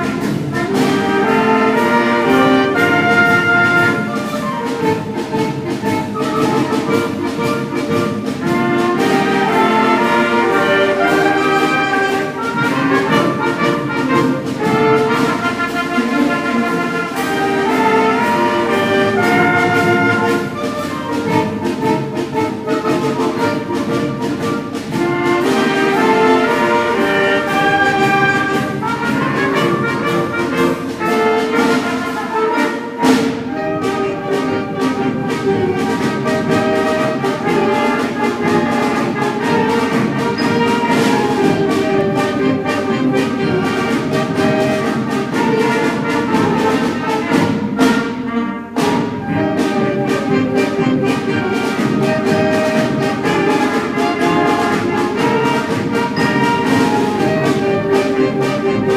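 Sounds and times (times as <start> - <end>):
concert band playing a march: 0.0 - 58.9.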